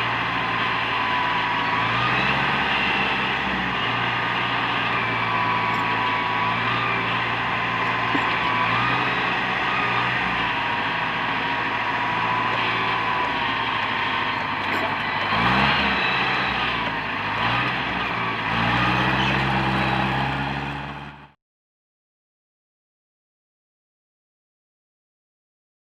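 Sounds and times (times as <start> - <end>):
excavator diesel engine: 0.0 - 21.4.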